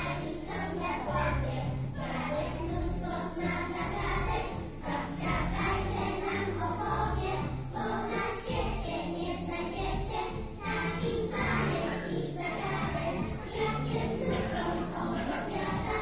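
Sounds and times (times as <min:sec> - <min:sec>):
young children singing: 0:00.0 - 0:16.0.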